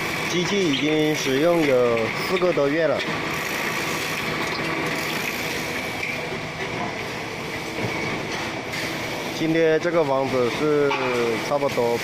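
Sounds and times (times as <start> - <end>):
concrete mixer pump running: 0.0 - 12.0
high mechanical whine: 0.0 - 12.0.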